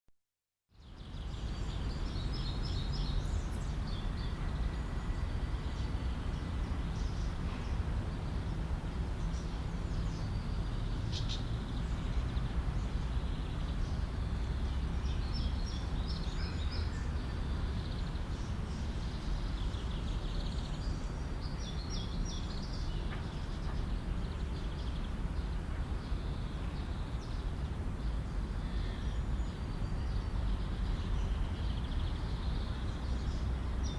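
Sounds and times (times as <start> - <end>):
low city rumble: 0.7 - 33.9.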